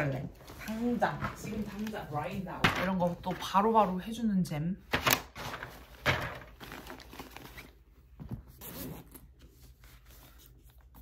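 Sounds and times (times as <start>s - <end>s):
packaging rustling and crinkling: 0.1s - 4.0s, 4.9s - 11.0s.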